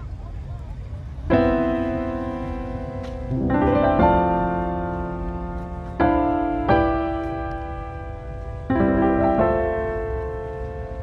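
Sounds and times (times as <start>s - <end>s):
slow piano chords: 1.2s - 11.0s.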